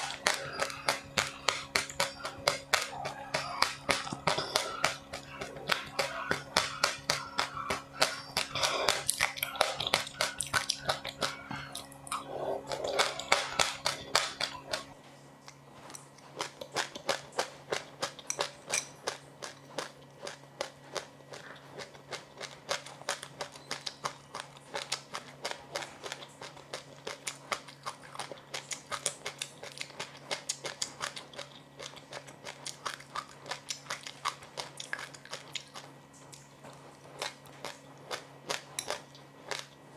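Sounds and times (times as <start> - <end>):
person chewing crunchy snacks: 0.0 - 39.9.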